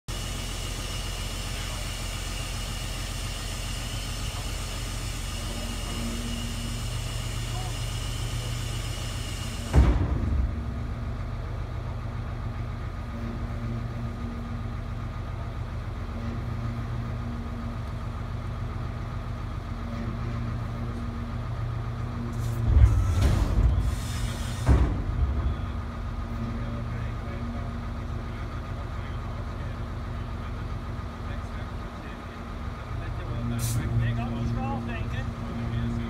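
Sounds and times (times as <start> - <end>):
garbage truck diesel engine idling: 0.1 - 36.0.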